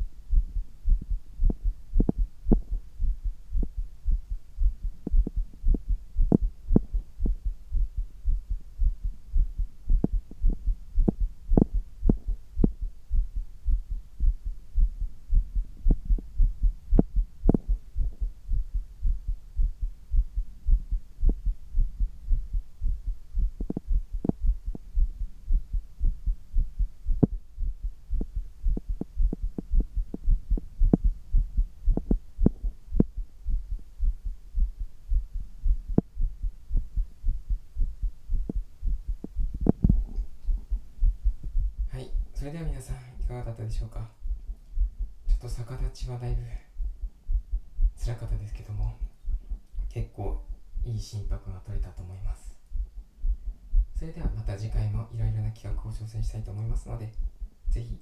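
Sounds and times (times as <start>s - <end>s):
heartbeat thumps: 0.0s - 58.0s
low steady hum: 0.0s - 58.0s.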